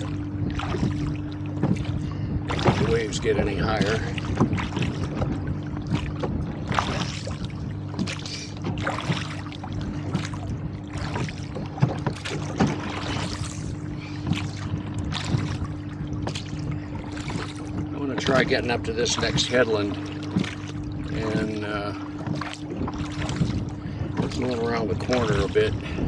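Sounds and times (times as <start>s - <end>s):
steady low hum: 0.0s - 26.0s
water splashing against boat hull: 0.0s - 26.0s.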